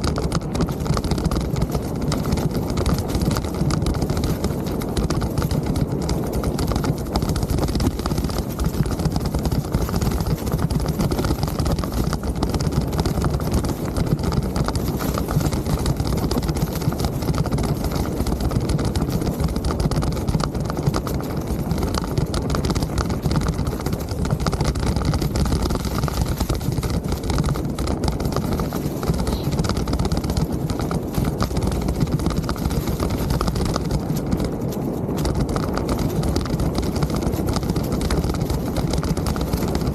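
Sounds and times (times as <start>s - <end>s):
bike rattling over bumps: 0.0s - 39.9s
bike tyres rumbling on trail: 0.0s - 39.9s.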